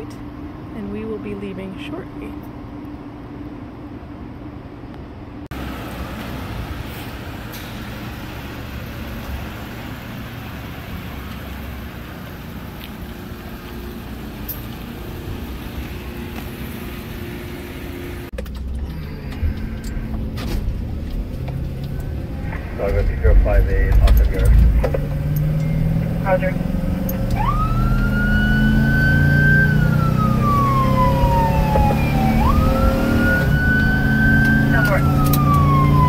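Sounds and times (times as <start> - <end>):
road rumble inside cab: 0.0 - 36.0
van engine running: 0.0 - 36.0.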